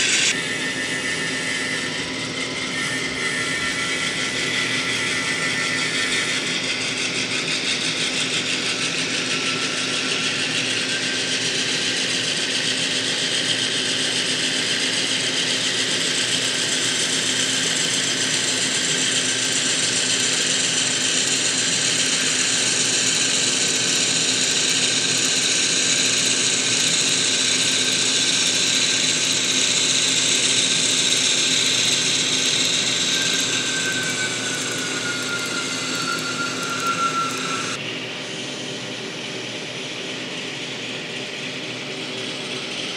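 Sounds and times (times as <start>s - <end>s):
model train motors whirring: 0.0s - 37.8s.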